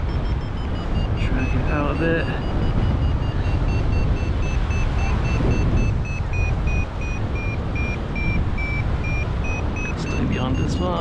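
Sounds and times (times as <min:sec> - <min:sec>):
variometer beeping: 0:00.0 - 0:11.0
wind on microphone: 0:00.0 - 0:11.0.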